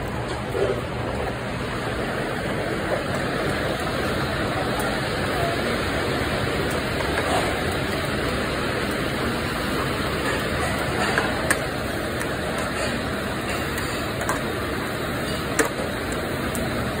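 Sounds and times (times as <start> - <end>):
kitchen ventilation rushing: 0.0 - 17.0.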